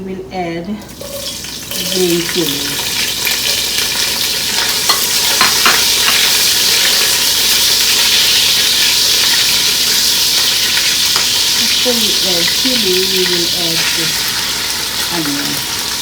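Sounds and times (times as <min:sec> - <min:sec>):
food sizzling in hot oil: 0:00.9 - 0:16.0.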